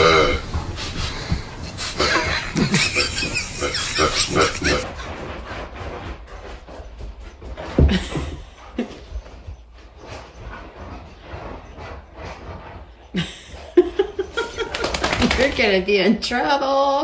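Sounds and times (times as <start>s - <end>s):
dog's excited vocal noises: 0.8s - 15.8s.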